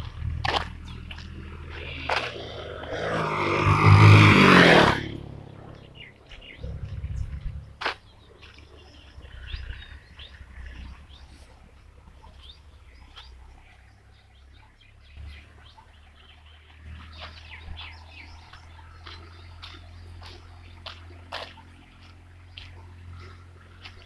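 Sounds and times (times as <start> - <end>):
low steady rumble: 0.0 - 24.0
small birds chirping: 0.0 - 24.0.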